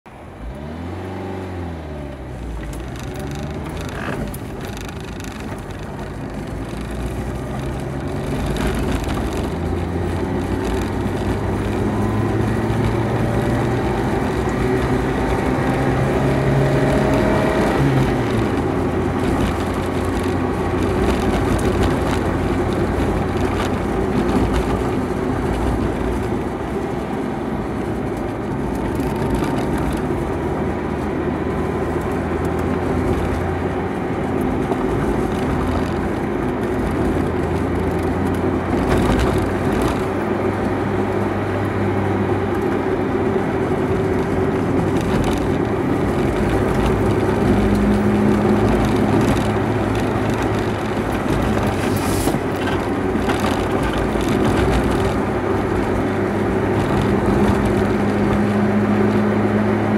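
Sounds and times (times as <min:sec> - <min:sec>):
road noise: 0:00.0 - 0:59.9
car engine revving through gears: 0:00.2 - 0:59.9.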